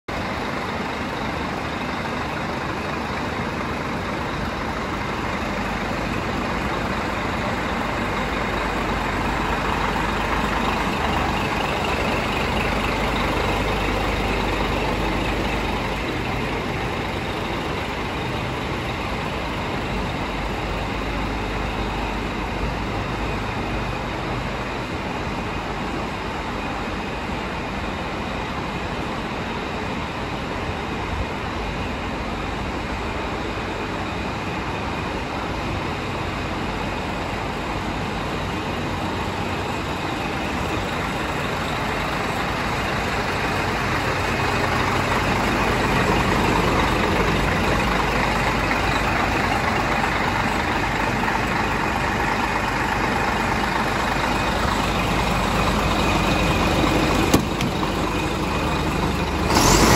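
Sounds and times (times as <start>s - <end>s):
lorry diesel engine idling: 0.0s - 59.9s.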